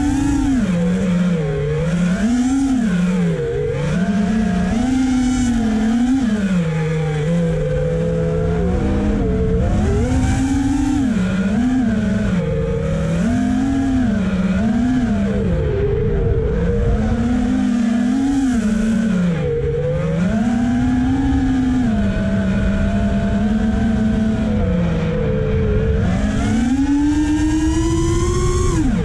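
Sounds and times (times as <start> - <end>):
quadcopter motors buzzing: 0.0 - 29.0.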